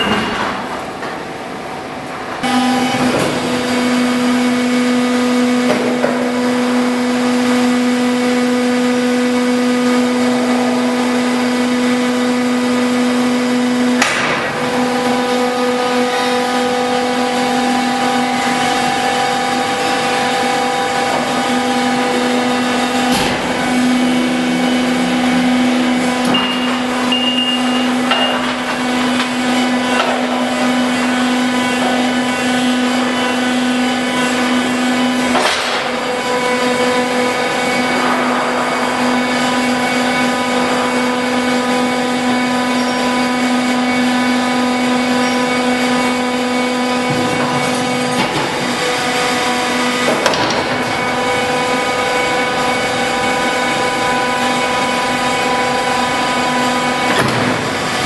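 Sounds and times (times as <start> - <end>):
furnace drive motors humming: 0.0 - 58.0.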